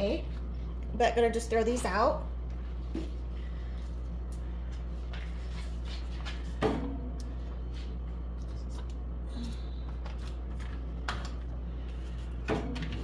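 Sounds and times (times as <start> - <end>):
refrigerator low hum: 0.0 - 13.0.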